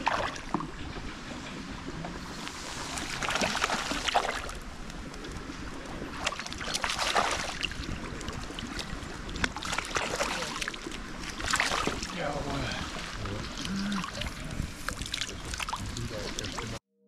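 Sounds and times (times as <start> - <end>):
fish splashing in water: 0.0 - 0.8, 2.3 - 16.8.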